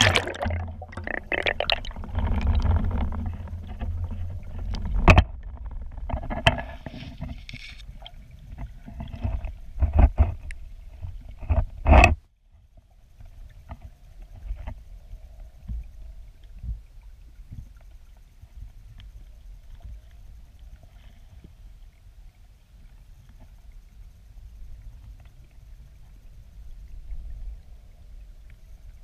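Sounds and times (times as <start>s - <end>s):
muffled underwater river rumble: 0.0s - 29.0s.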